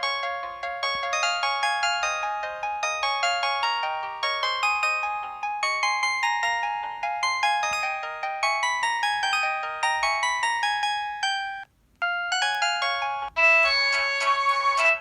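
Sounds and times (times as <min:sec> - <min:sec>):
bell-like ringtone melody: 0:00.0 - 0:15.0.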